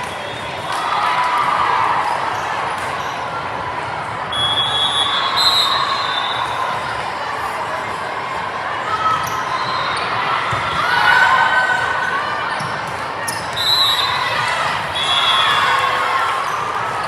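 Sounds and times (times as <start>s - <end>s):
background chatter: 0.0s - 17.0s.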